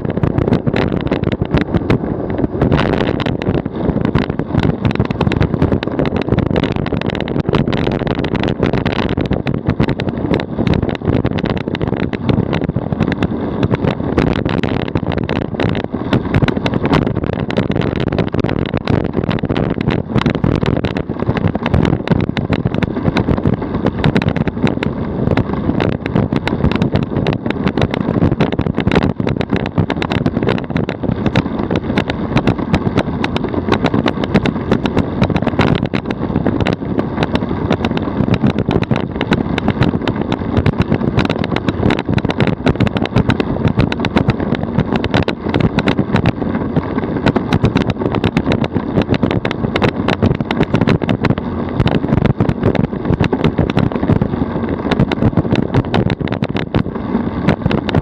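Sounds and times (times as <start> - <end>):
small rattles and knocks: 0.0 - 58.0
tyre and road rumble: 0.0 - 58.0.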